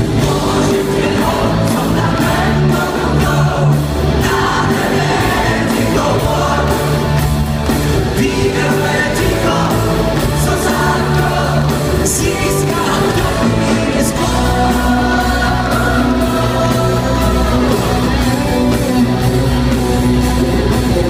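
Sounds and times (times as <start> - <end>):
man singing lead: 0.0 - 7.2, 8.0 - 20.1
live pop-rock band in arena: 0.0 - 21.0.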